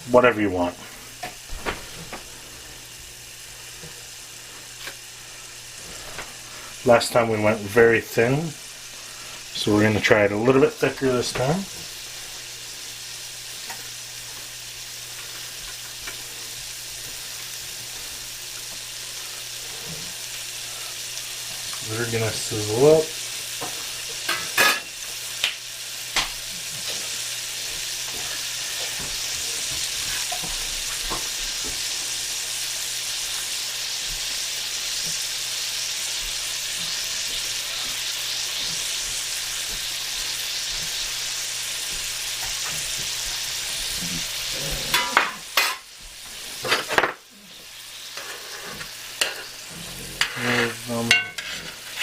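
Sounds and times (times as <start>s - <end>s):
patties sizzling in a skillet: 0.0s - 52.0s.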